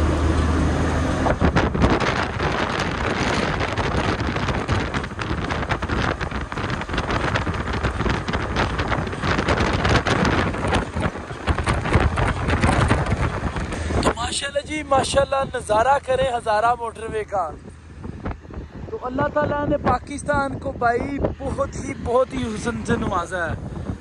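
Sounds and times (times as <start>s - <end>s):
truck driving: 0.0s - 24.0s
wind buffeting microphone: 0.0s - 24.0s.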